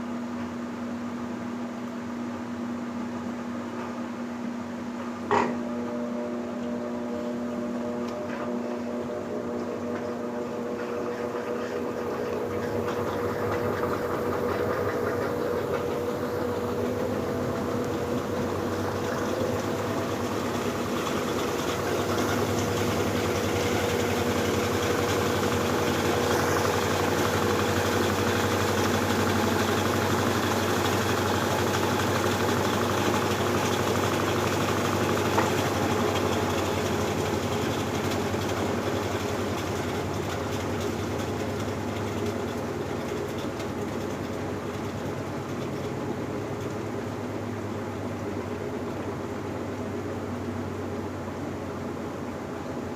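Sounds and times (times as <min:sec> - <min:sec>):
washing machine drain pump humming: 0:00.0 - 0:52.9.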